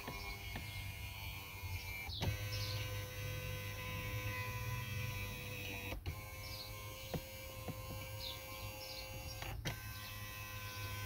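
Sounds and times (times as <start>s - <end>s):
small electric motors humming: 0.0s - 11.0s.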